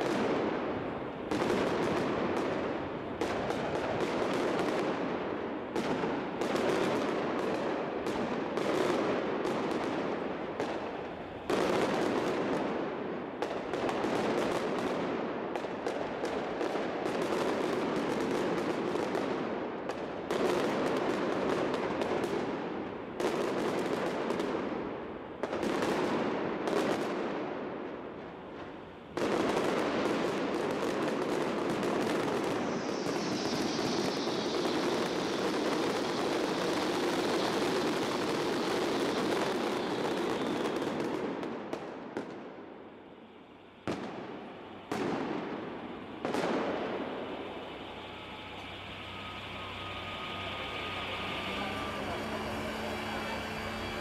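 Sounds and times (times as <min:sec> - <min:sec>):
fireworks bangs and crackling: 0:00.0 - 0:43.1, 0:43.8 - 0:54.0.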